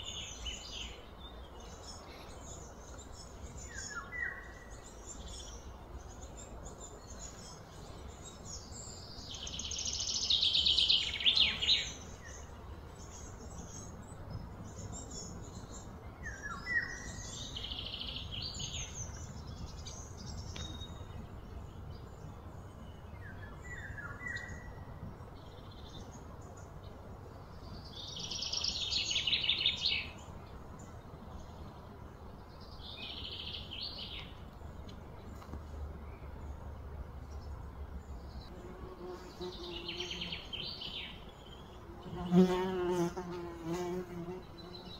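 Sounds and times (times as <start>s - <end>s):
birds trilling songs: 0.0s - 44.9s.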